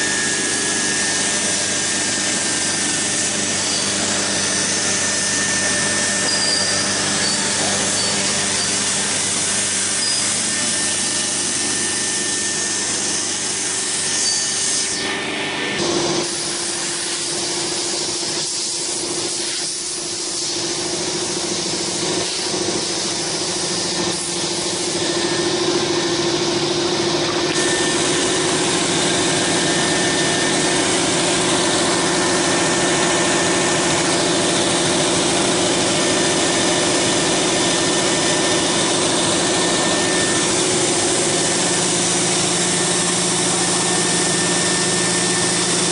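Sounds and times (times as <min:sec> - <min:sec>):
cnc router cutting board: 0:00.0 - 0:45.9.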